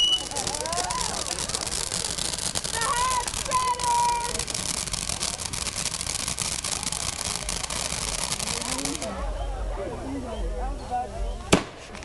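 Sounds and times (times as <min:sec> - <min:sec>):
fireworks crackling: 0:00.0 - 0:09.7, 0:11.4 - 0:12.0.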